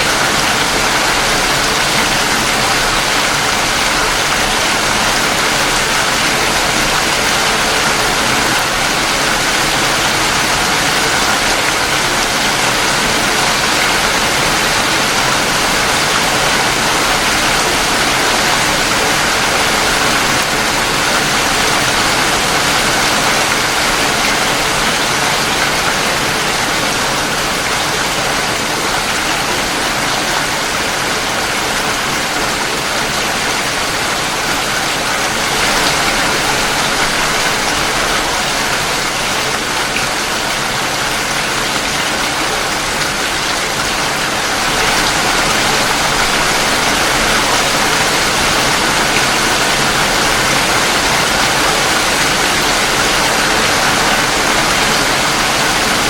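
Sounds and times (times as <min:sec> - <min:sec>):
heavy rain pattering: 0:00.0 - 0:56.0.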